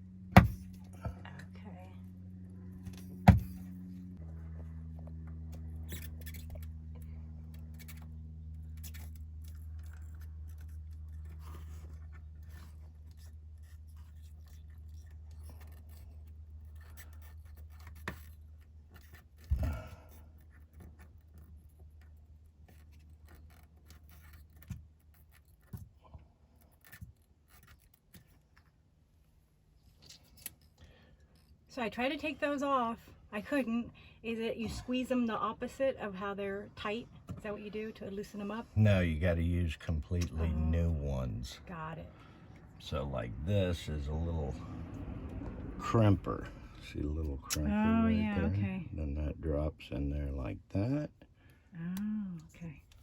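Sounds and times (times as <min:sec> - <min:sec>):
steady low hum: 0:00.0 - 0:28.0, 0:29.0 - 0:53.0.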